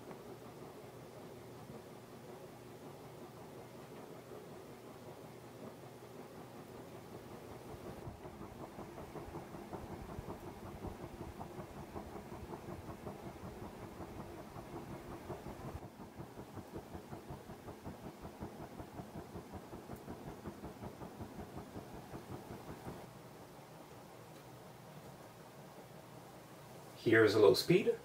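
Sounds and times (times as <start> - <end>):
ceiling fan motor hum: 0.0 - 28.0.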